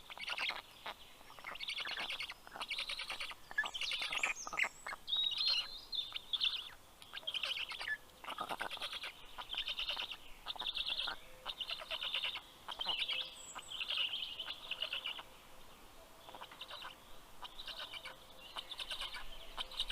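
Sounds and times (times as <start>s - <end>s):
birds chirping trills: 0.0s - 19.9s.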